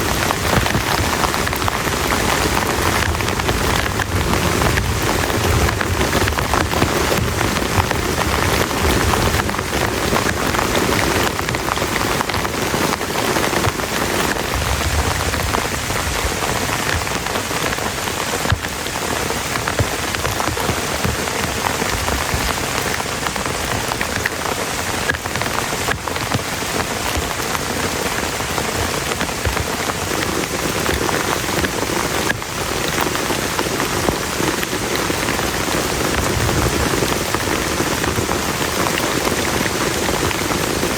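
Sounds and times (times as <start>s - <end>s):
heavy rain falling: 0.0s - 40.9s
raindrops striking close by: 0.0s - 40.9s.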